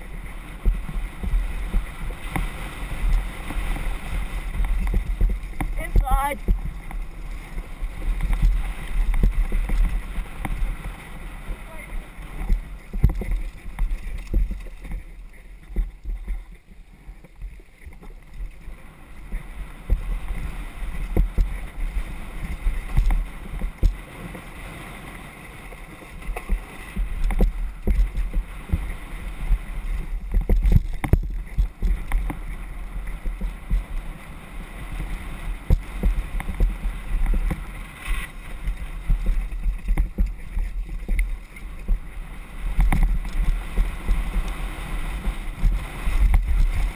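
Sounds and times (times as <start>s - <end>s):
bike knocking and rattling: 0.0s - 24.5s, 25.4s - 34.2s, 34.9s - 46.9s
wind rushing over microphone: 0.0s - 46.9s.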